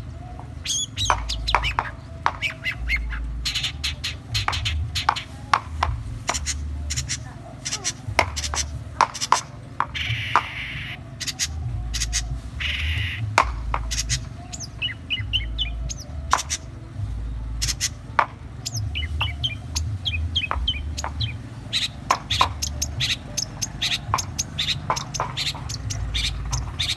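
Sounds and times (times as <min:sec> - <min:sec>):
shrike singing sharp calls: 0:00.0 - 0:26.9.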